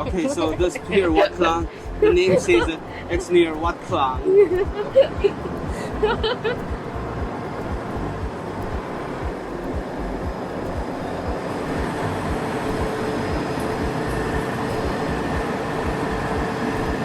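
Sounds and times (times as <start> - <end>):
boat diesel engine droning: 0.0 - 17.0
low thumps: 0.0 - 17.0.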